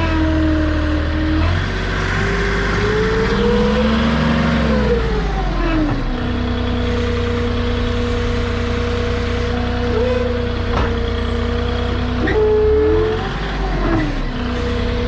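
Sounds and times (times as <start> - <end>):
forklift engine revving: 0.0 - 15.0.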